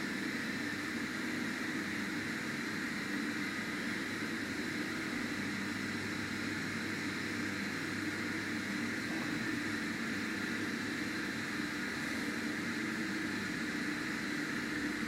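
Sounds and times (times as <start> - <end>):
elevator humming and whirring: 0.0 - 15.0.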